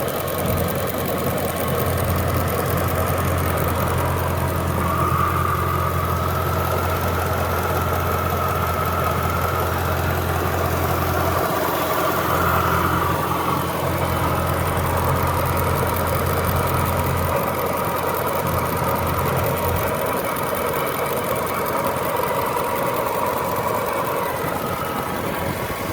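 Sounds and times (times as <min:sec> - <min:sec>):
car engine idling: 0:00.0 - 0:25.9
engine tapping noise: 0:00.0 - 0:25.9
steady whine: 0:00.0 - 0:25.9.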